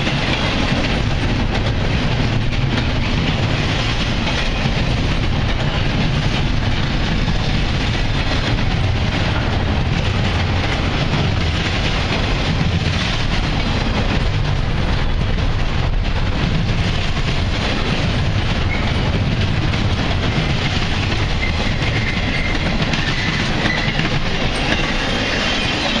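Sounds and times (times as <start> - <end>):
steel wheels rolling on rail: 0.0 - 26.0.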